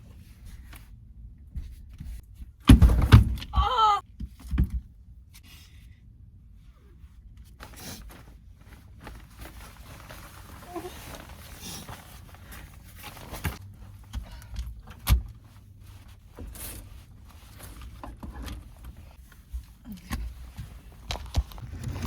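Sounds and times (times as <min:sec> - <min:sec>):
knocks and rustles of handling: 0:00.0 - 0:05.9, 0:07.0 - 0:22.0.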